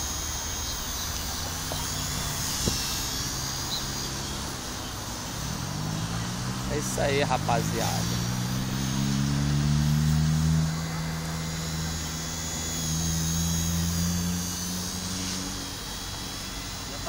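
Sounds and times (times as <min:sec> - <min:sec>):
high electric motor whine: 0:00.0 - 0:17.0
rc helicopter rotor hum: 0:00.0 - 0:17.0.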